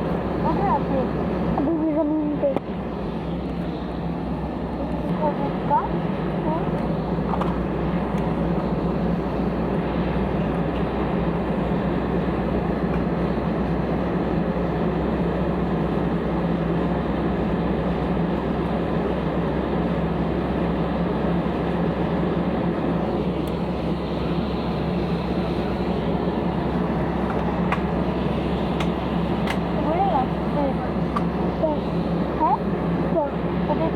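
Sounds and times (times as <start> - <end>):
airliner cabin engine drone: 0.0 - 33.9.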